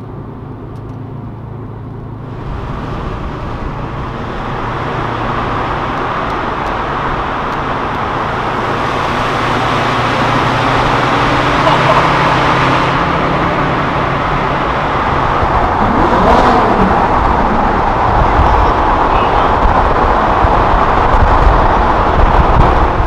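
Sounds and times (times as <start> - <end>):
cars in tunnel: 0.0 - 23.0
sports car engine: 0.0 - 23.0.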